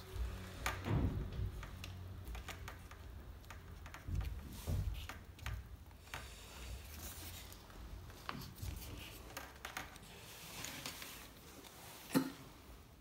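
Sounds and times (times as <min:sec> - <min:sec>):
plastic rubbing: 0:00.0 - 0:12.1.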